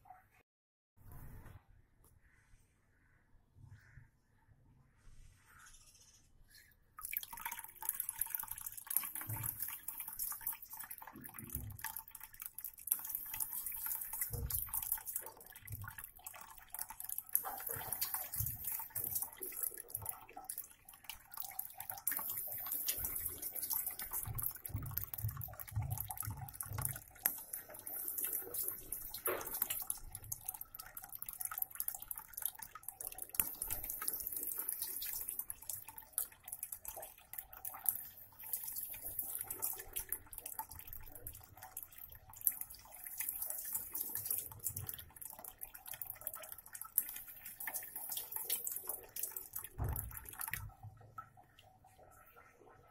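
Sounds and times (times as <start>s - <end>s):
water pouring into plastic tub: 7.0s - 52.4s.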